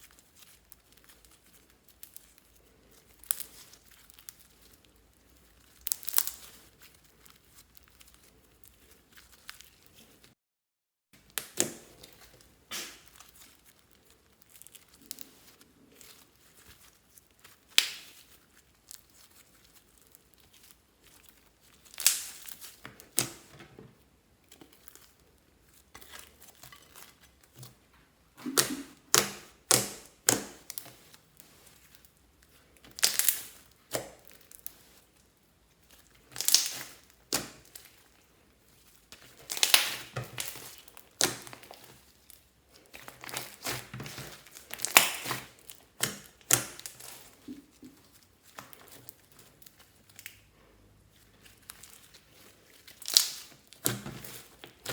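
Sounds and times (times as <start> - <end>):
slime crackling and tearing: 0.0 - 10.3, 11.2 - 23.5, 28.4 - 50.5, 51.1 - 54.9.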